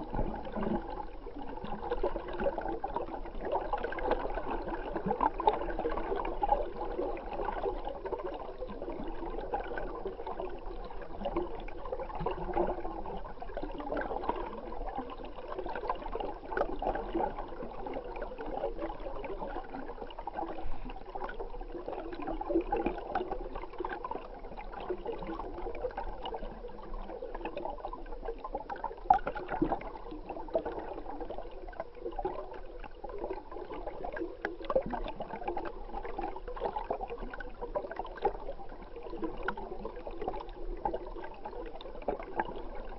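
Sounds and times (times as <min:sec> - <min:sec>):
muffled underwater gurgling: 0:00.0 - 0:42.9.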